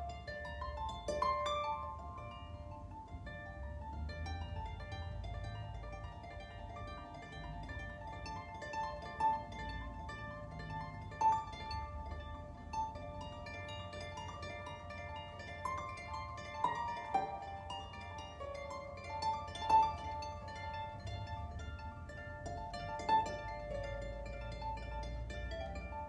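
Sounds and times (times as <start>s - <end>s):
solo harp playing slow music: 0.0s - 26.0s.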